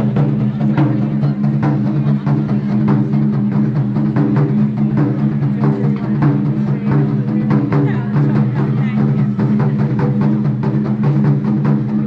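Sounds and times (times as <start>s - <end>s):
taiko drums: 0.0s - 12.0s.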